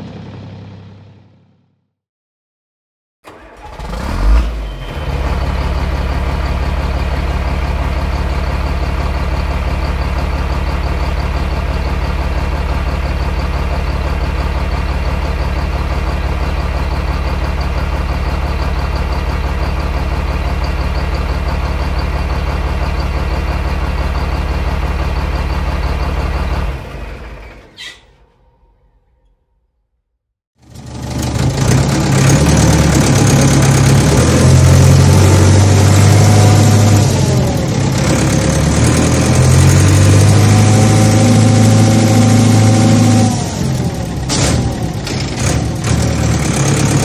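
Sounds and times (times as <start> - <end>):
large engine humming steadily: 0.0 - 1.7, 3.3 - 28.4, 30.6 - 47.0.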